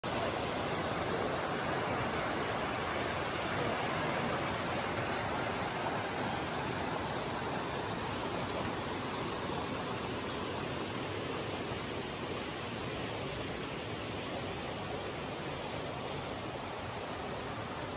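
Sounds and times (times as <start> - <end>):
stream rushing over rocks: 0.0 - 17.9.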